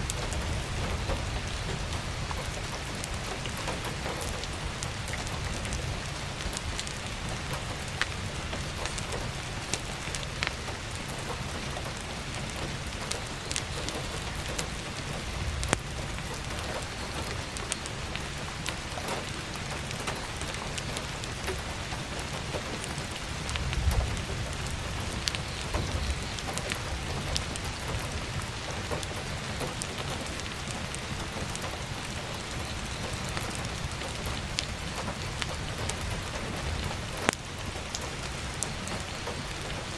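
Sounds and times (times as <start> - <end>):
firewood crackling: 0.0 - 39.9
heavy rain falling: 0.0 - 39.9.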